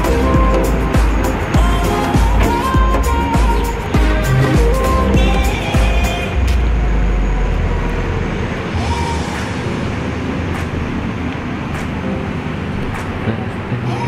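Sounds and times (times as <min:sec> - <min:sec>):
heavy vehicle rumble: 0:00.0 - 0:14.0
road noise: 0:00.0 - 0:14.0.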